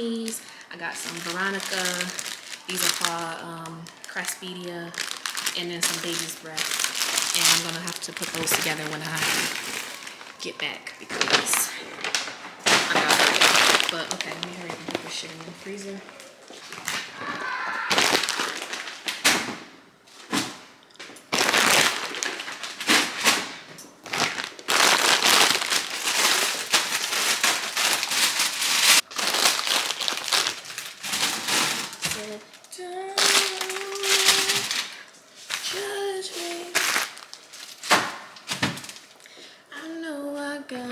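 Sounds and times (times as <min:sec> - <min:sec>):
plastic bags rustling and crinkling: 0:00.0 - 0:39.2.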